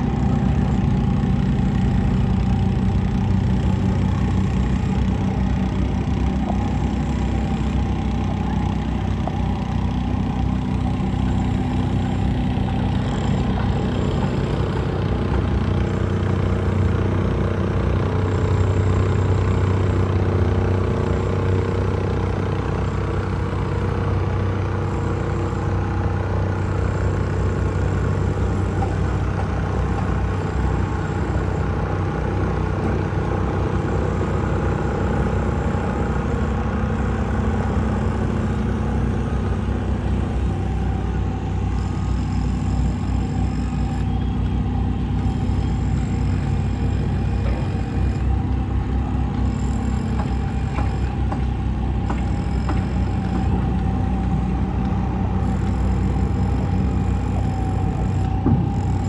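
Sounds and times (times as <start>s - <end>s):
plate compactor engine drone: 0.0s - 59.0s.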